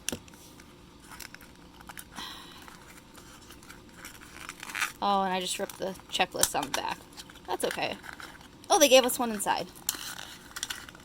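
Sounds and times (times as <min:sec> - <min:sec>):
cardboard packaging crinkling: 0:00.4 - 0:11.0.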